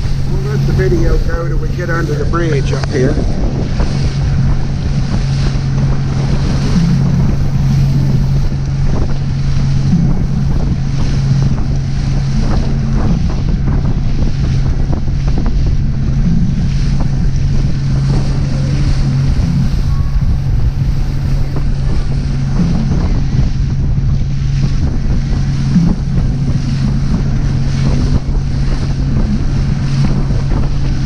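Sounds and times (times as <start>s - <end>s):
motorboat engine humming: 0.0s - 31.0s
water rushing past hull: 0.0s - 31.0s
wind buffeting microphone: 0.0s - 31.0s.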